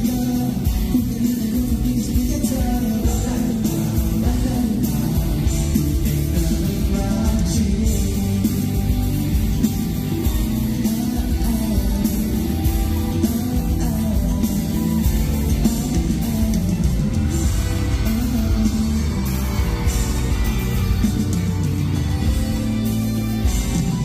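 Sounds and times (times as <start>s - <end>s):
pop-rock song with guitar and drums: 0.0s - 24.0s.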